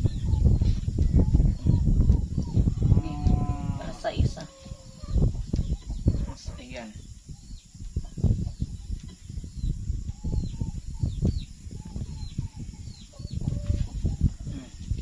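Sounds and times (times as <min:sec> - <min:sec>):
birds chirping: 0:00.0 - 0:15.0
wind buffeting microphone: 0:00.0 - 0:15.0.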